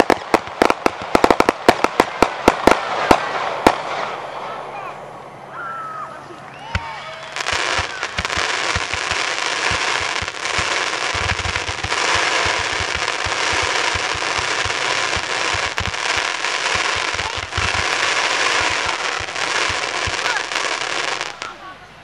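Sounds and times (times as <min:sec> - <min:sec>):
firework pops and crackle: 0:00.0 - 0:04.1, 0:06.7 - 0:21.5
firework fountain hissing: 0:00.0 - 0:21.8.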